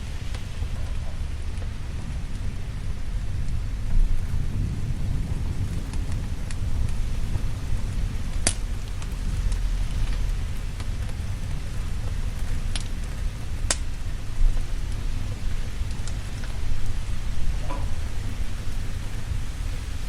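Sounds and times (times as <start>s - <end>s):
low rumble of thunder: 0.0s - 20.0s
steady rain: 0.0s - 20.0s.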